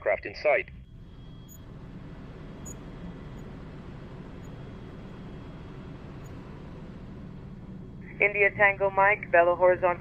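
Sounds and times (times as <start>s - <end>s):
helicopter rotor and turbine drone: 0.7s - 10.0s.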